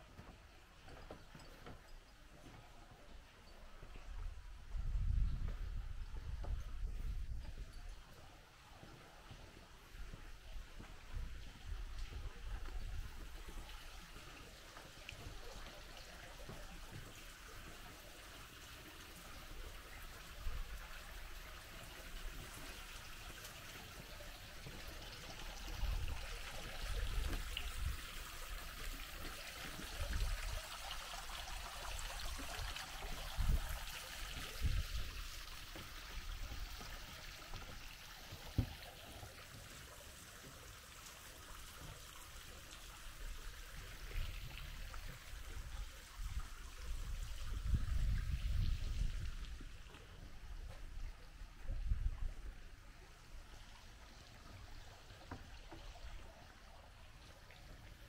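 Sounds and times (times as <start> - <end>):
water lapping under a pier: 0.0 - 58.0.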